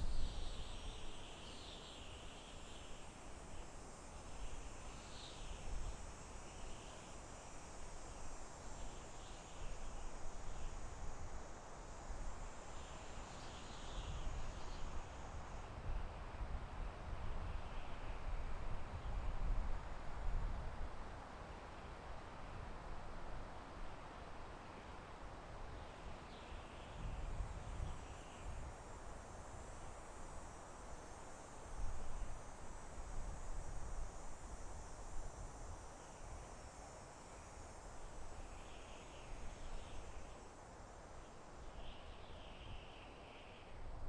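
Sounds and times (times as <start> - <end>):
wind through forest: 0.0 - 44.0.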